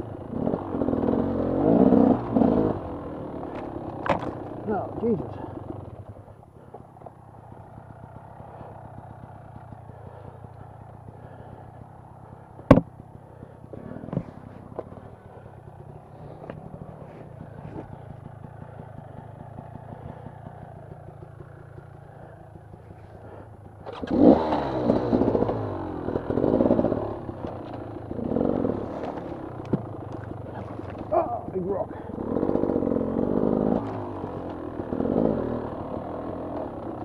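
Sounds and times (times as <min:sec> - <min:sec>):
dirt bike engine idling: 0:00.0 - 0:37.0.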